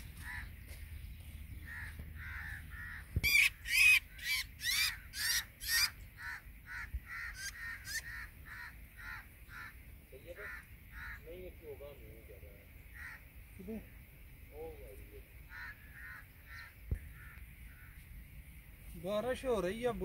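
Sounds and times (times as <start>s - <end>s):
birds calling harshly: 0.0s - 20.0s.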